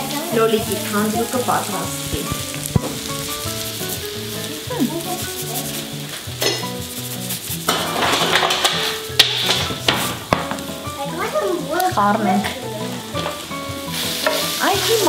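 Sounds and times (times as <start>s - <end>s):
light background music: 0.0s - 15.0s
pan sizzling: 0.0s - 15.0s.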